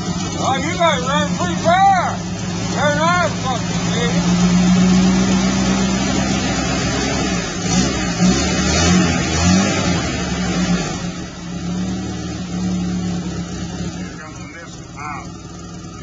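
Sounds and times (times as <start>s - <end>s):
car engine running rough: 0.0s - 16.0s.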